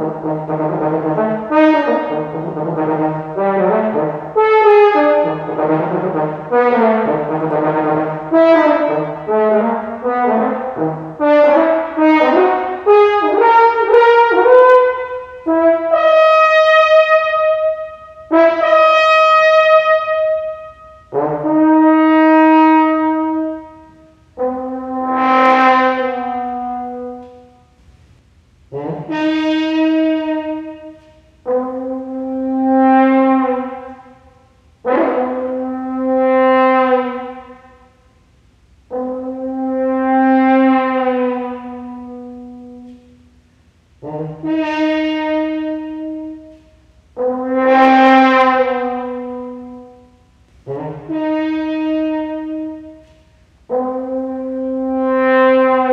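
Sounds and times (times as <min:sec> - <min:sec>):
french horn long notes: 0:00.0 - 0:55.9.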